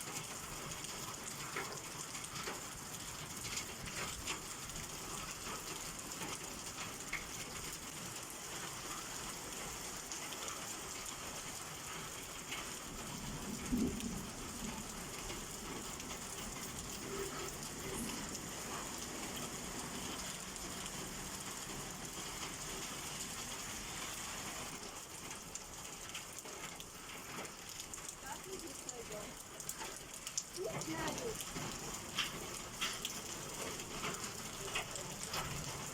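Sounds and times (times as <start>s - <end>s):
rain pattering on surfaces: 0.0s - 35.9s.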